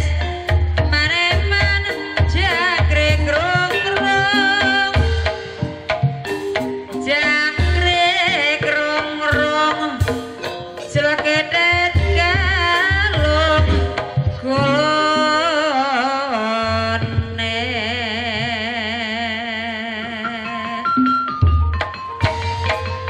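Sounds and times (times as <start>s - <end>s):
drum strokes and thumps: 0.0s - 18.7s, 20.9s - 23.0s.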